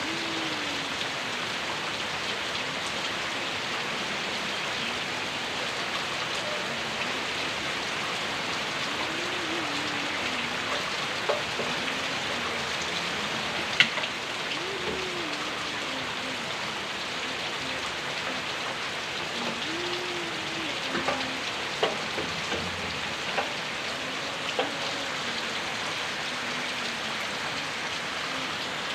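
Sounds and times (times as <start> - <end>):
raindrops tapping: 0.0 - 3.2, 5.9 - 28.9
heavy rain downpour: 0.0 - 28.9.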